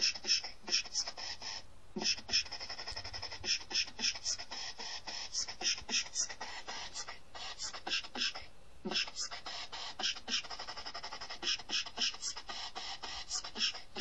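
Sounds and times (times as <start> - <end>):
synthetic voice beatboxing: 0.0 - 14.0.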